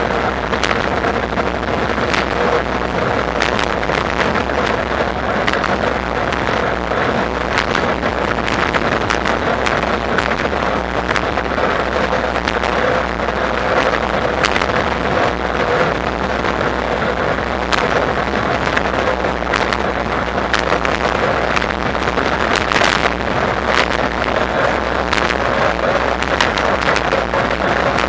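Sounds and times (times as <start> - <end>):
sharp clicks and rattles: 0.0 - 28.0
wind on microphone: 0.0 - 28.0.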